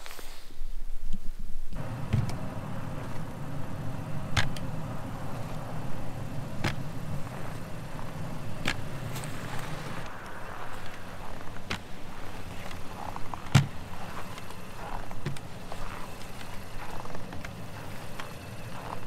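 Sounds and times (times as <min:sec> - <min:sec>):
snow brush strokes on windshield: 0:01.8 - 0:19.0
vehicle engine idling: 0:01.8 - 0:19.0.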